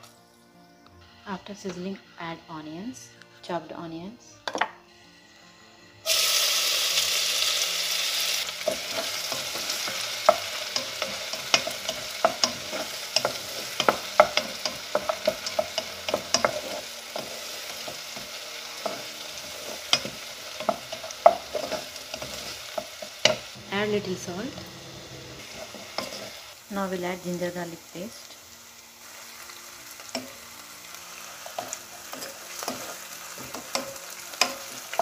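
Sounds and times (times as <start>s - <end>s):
onions sizzling in hot oil: 4.5s - 35.0s.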